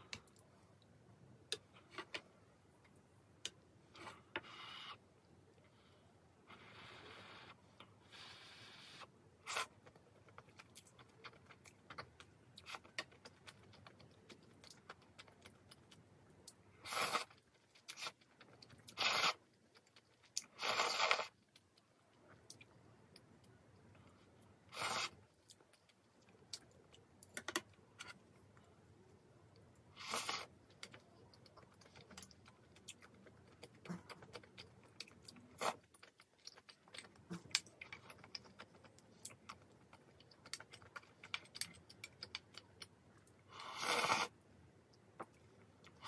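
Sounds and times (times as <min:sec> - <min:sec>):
soft chewing: 0:00.0 - 0:46.0.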